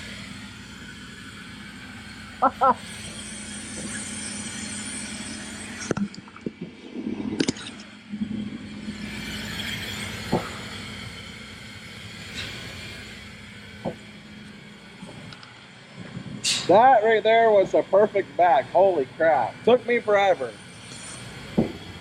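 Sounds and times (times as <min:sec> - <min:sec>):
diesel engine idling: 0:00.0 - 0:06.0, 0:07.8 - 0:22.0.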